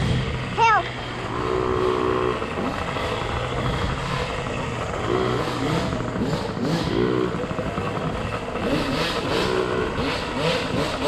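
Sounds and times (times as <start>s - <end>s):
motorcycles revving: 0.0s - 11.0s.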